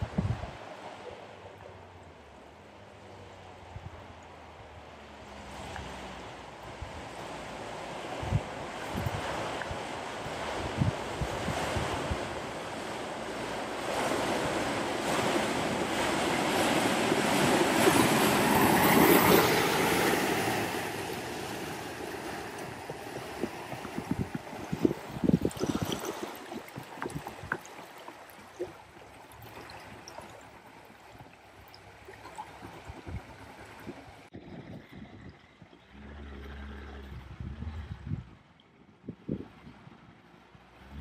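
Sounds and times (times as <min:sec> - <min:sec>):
floodwater surging and splashing: 0:00.0 - 0:41.0
wash of moving water: 0:00.0 - 0:41.0.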